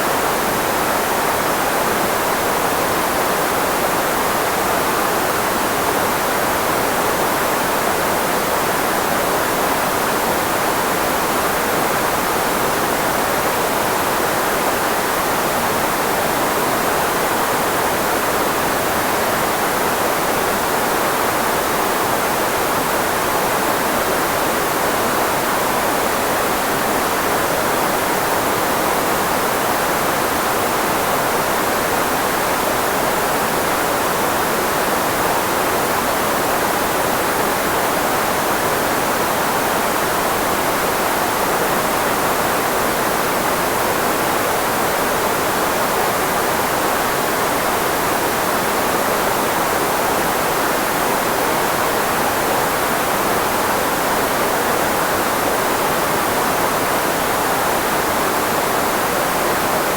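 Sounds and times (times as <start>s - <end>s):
filtered white noise hiss: 0.0s - 59.9s.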